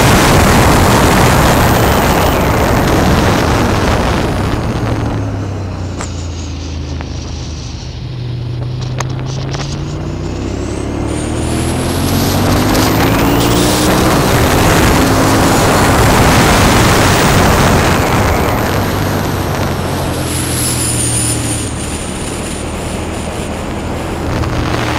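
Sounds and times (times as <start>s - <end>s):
motorcycle engine accelerating: 0.0s - 24.9s
wind rush on microphone: 0.0s - 24.9s.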